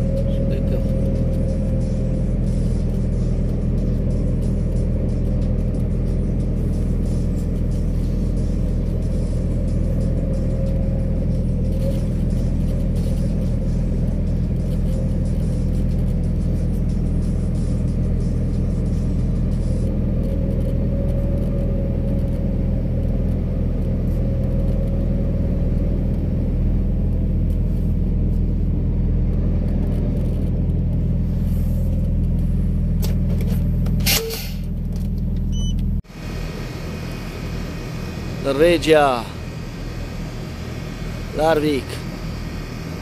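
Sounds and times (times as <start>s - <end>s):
diesel engine droning: 0.0s - 43.0s.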